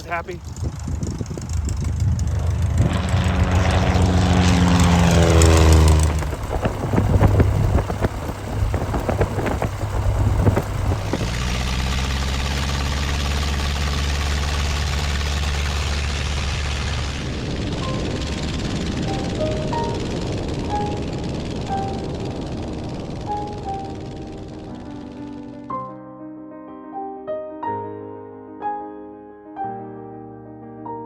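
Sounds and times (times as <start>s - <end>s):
light aircraft engine and propeller: 0.0s - 25.7s.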